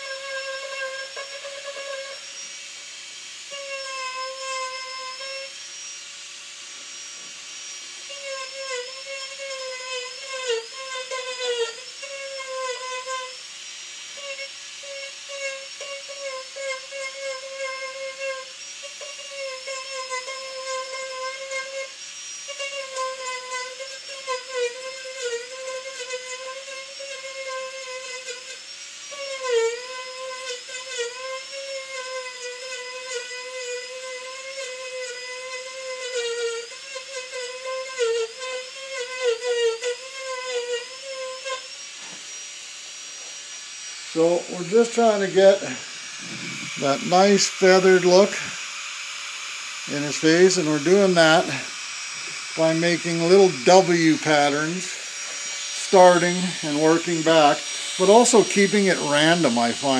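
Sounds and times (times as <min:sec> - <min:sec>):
rotary tool whining against wood: 0:00.0 - 0:59.9.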